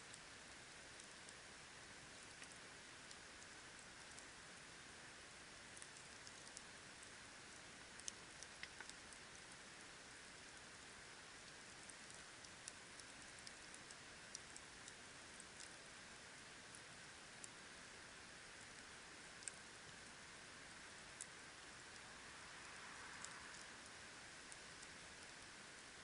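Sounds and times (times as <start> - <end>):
campfire hissing and crackling: 0.0 - 26.0.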